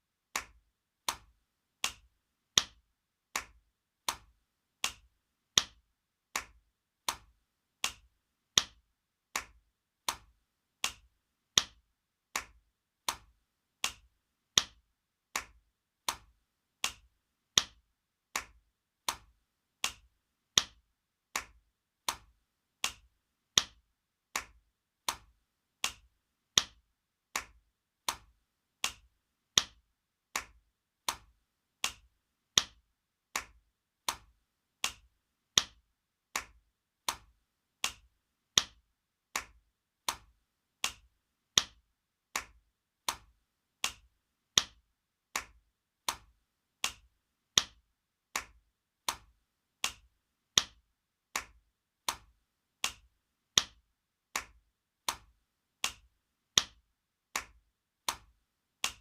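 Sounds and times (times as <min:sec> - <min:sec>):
hand slaps: 0:00.3 - 0:32.8, 0:33.4 - 0:35.8, 0:36.4 - 0:38.8, 0:39.4 - 0:41.8, 0:42.4 - 0:44.8, 0:45.4 - 0:47.8, 0:48.4 - 0:50.8, 0:51.4 - 0:53.8, 0:54.4 - 0:56.8, 0:57.4 - 0:59.0.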